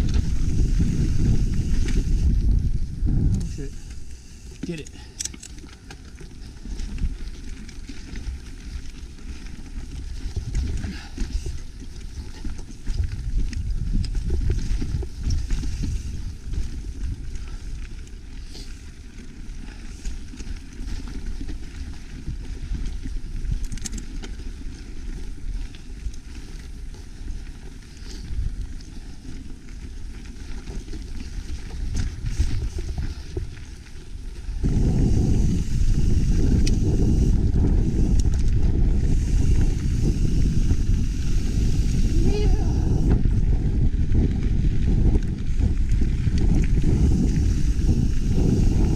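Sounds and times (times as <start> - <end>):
mountain bike rumbling over trail: 0.0 - 48.9.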